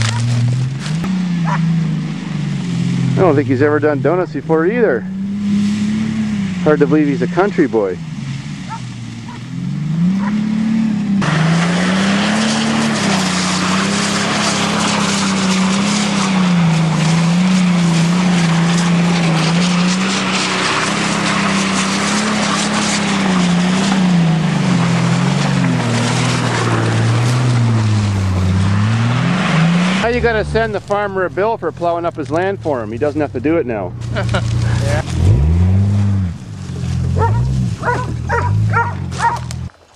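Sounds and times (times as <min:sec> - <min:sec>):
car engine revving: 0:00.0 - 0:39.8
spinning tyres on dirt: 0:00.0 - 0:39.9.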